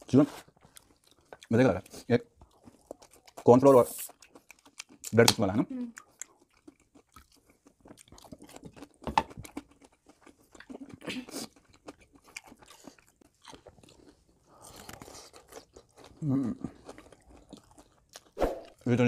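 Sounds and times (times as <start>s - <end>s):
crunching fried chicken: 0.7s - 19.0s.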